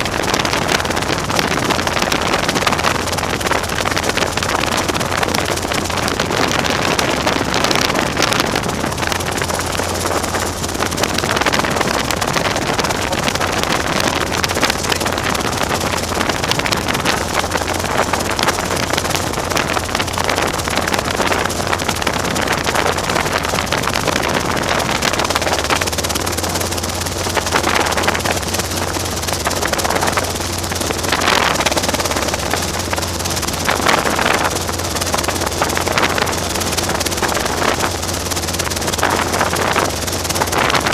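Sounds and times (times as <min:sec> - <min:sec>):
helicopter engine and rotor: 0:00.0 - 0:40.9
rushing wind: 0:00.0 - 0:40.9.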